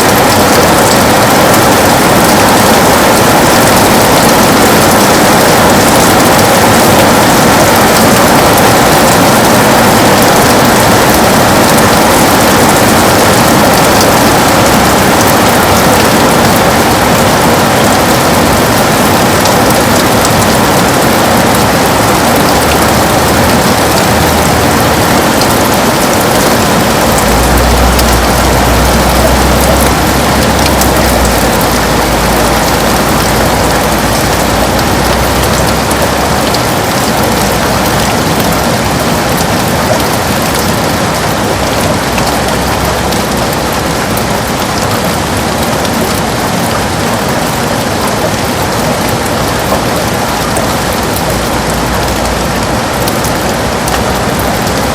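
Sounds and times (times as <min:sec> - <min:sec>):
heavy rain on a window: 0:00.0 - 0:54.9.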